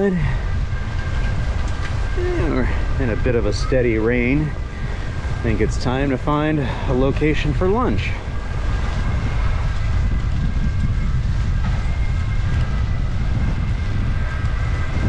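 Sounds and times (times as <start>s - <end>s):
steady rain: 0.0s - 15.0s
tram high whine: 0.0s - 15.0s
wind rumbling on microphone: 0.0s - 15.0s.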